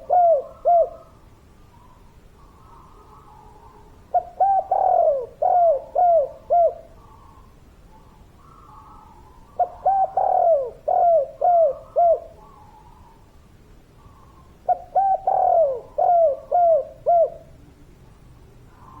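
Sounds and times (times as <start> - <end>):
dove cooing: 0.0 - 13.2, 14.0 - 17.6
faint high bird calls: 0.0 - 19.0.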